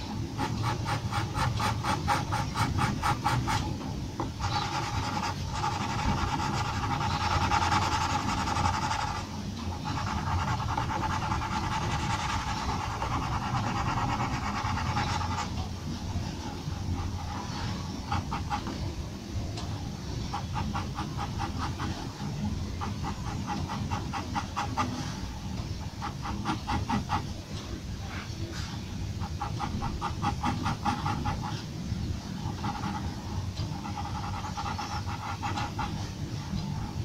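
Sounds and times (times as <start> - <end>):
pencil scratching on paper: 0.0 - 18.9, 20.2 - 27.4, 28.0 - 36.7.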